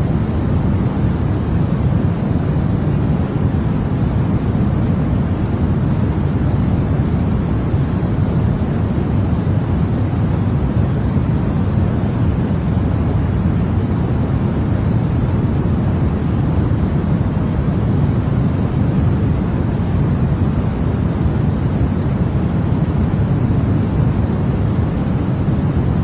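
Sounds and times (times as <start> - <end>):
deep white noise: 0.0 - 26.0.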